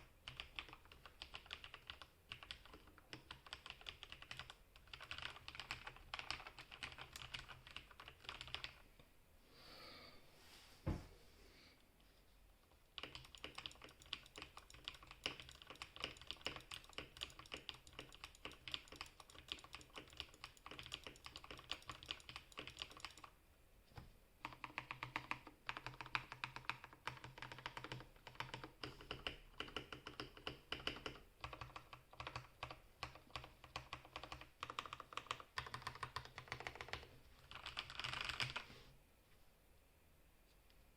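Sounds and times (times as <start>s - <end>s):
mechanical keyboard typing: 0.0s - 8.8s, 12.9s - 23.4s, 24.4s - 38.7s.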